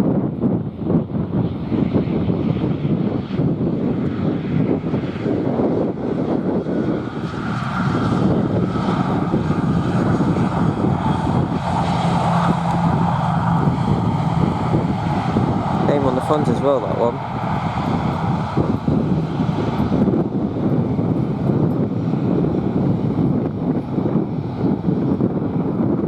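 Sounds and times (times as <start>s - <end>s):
aircraft engine noise: 0.0s - 26.0s
steady engine tones: 0.0s - 26.0s
wind buffeting microphone: 0.0s - 26.0s.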